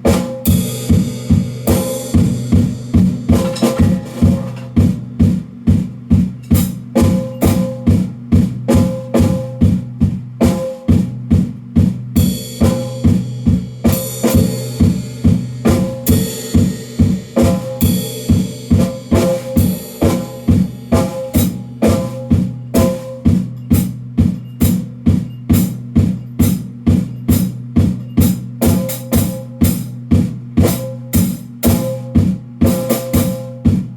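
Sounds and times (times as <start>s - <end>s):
cymbals washing: 0.0s - 33.9s
kick and snare drum beat: 0.0s - 33.9s.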